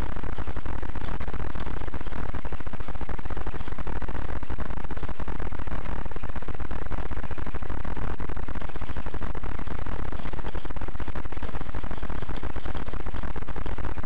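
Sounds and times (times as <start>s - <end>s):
electrical microphone buzz: 0.0s - 14.0s.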